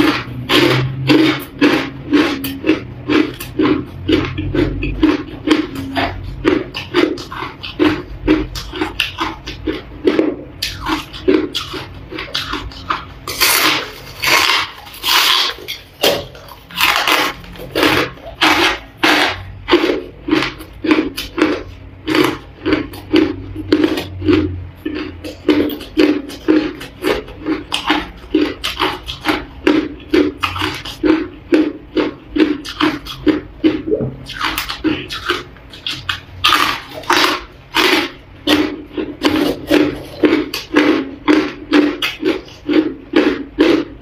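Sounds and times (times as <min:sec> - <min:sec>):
chewing crushed ice: 0:00.0 - 0:44.0.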